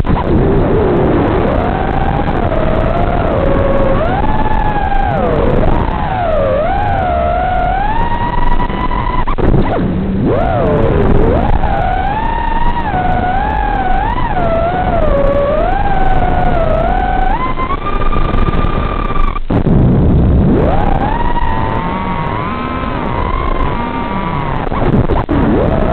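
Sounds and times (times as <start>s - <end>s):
drone motors whining: 0.0s - 19.7s, 20.4s - 25.9s.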